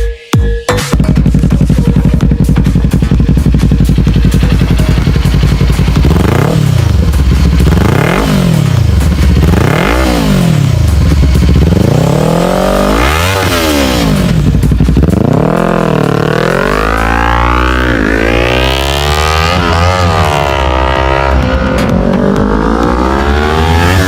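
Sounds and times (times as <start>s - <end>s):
motorcycle engine revving: 0.9s - 24.0s.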